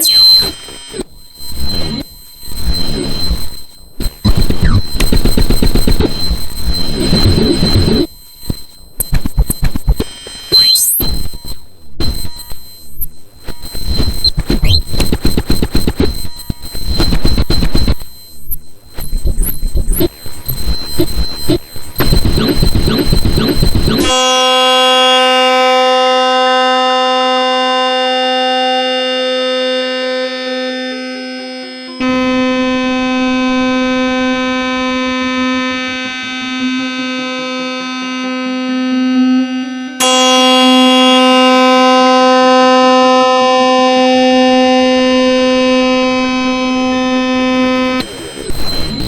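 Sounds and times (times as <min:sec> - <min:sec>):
held buzzy synth tone: 0:00.0 - 0:49.0.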